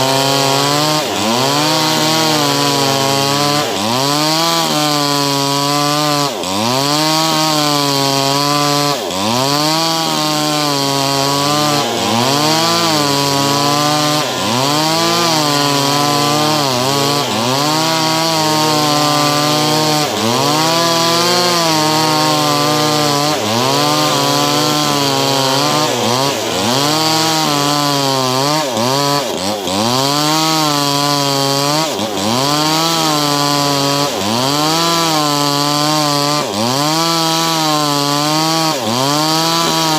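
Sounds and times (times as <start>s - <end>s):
small engine running fast: 0.0s - 39.9s.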